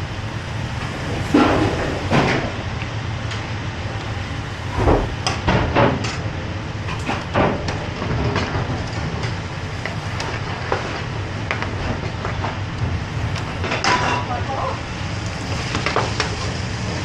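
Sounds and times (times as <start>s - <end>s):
kitchen range and extraction rumble: 0.0s - 17.0s.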